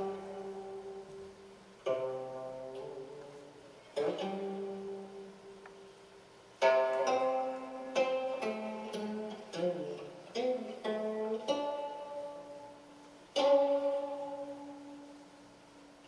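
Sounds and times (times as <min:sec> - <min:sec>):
plucked zither notes: 0:00.0 - 0:15.6.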